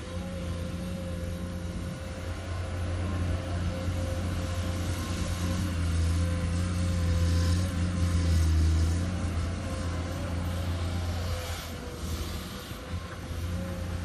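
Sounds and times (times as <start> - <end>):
excavator diesel engine droning: 0.0 - 14.0
hydraulic whine: 0.0 - 14.0.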